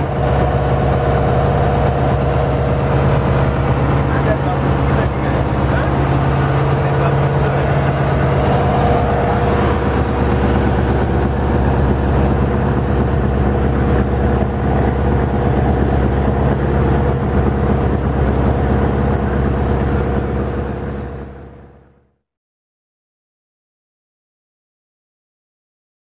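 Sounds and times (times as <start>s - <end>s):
water rushing: 0.0s - 21.6s
boat engine humming: 0.0s - 22.0s.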